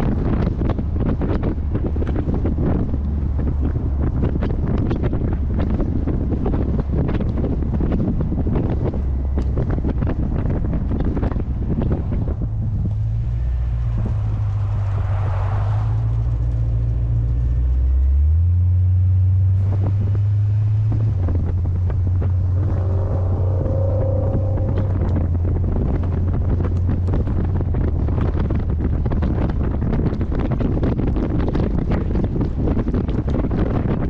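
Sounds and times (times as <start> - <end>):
car engine running: 0.0 - 34.0
wind buffeting microphone: 0.0 - 34.0.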